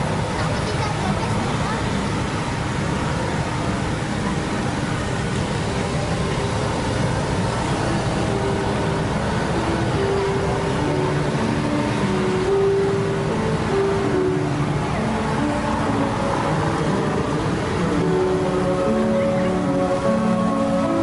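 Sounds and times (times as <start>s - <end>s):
motorcycle and car engines rumbling: 0.0s - 21.0s
faint melody of held notes: 4.1s - 21.0s.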